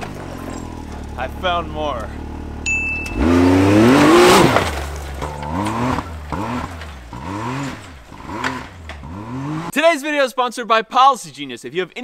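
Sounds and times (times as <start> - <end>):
utv engine revving: 0.0 - 9.8.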